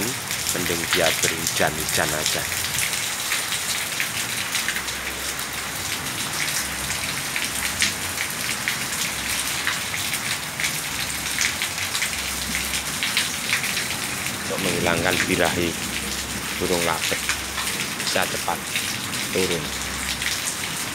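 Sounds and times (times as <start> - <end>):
rain on concrete: 0.0 - 20.9.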